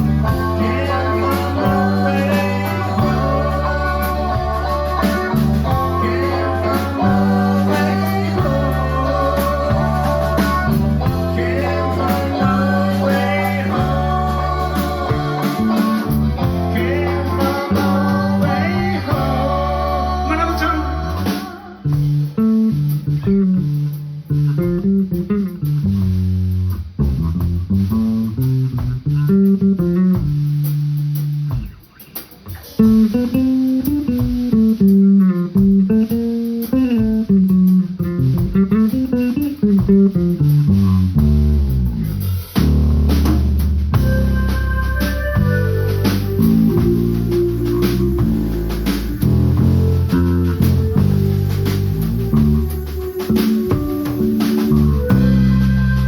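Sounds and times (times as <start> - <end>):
live band with guitar and bass: 0.0 - 56.0.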